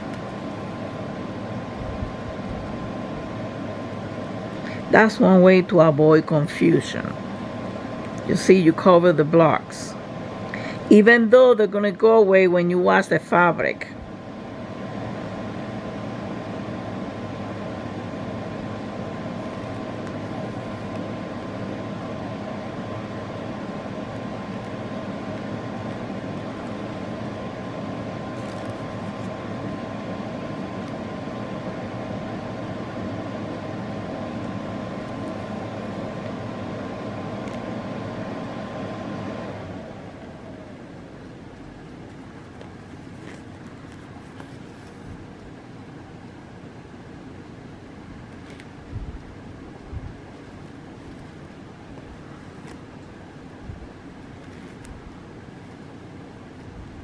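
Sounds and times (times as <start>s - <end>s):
motor humming with whine: 0.0s - 57.0s.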